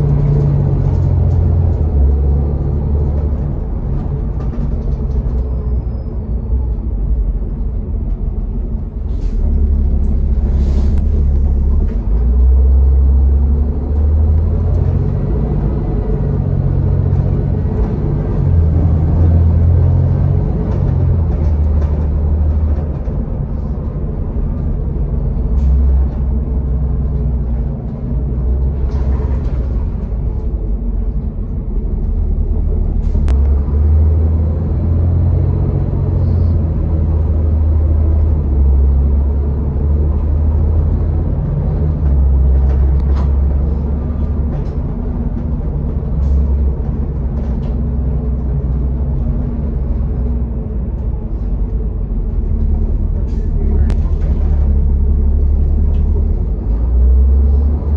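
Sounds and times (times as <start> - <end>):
bus engine and road rumble: 0.0 - 57.9.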